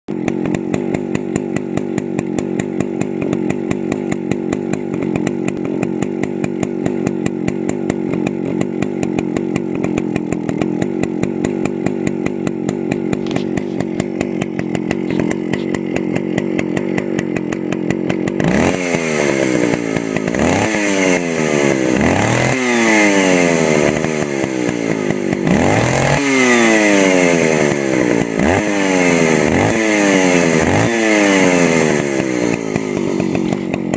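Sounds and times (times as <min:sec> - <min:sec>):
chainsaw idling and revving: 0:00.1 - 0:33.9.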